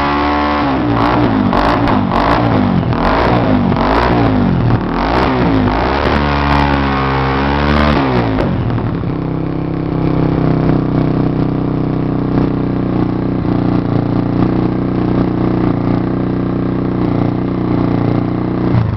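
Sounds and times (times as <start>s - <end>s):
motorcycle engine revving and idling: 0.0s - 18.9s.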